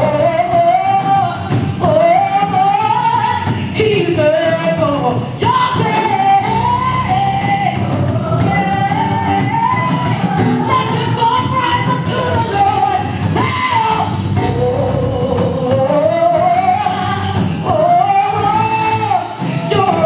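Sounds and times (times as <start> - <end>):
band with drums: 0.0 - 20.0
woman singing gospel: 0.0 - 20.0.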